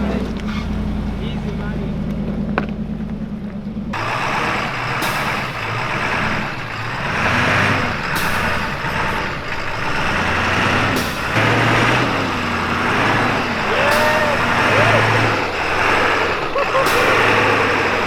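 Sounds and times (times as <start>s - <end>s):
suv engine revving: 0.0s - 18.0s.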